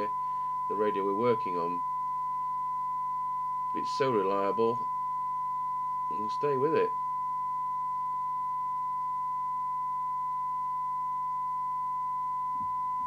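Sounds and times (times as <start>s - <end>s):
steady test tone from radio: 0.0s - 13.0s.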